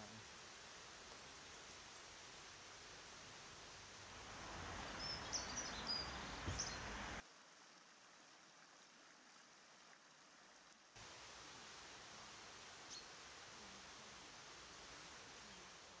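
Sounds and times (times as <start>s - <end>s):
quiet hiss: 0.0s - 16.0s.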